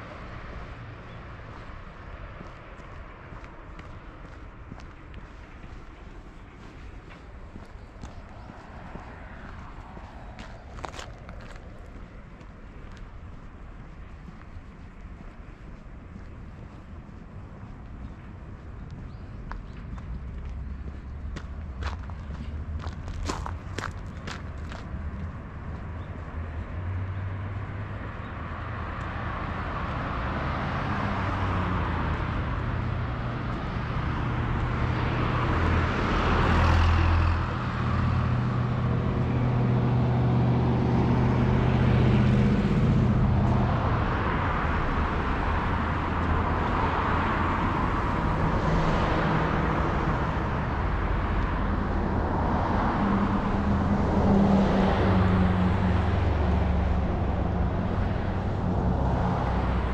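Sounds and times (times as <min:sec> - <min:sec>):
cars passing: 0:00.0 - 0:59.9
low engine hum: 0:00.0 - 0:59.9.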